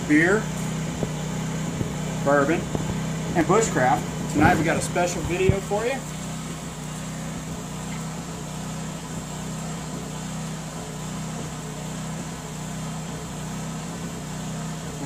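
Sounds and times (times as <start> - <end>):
electric air blower humming: 0.0 - 15.0.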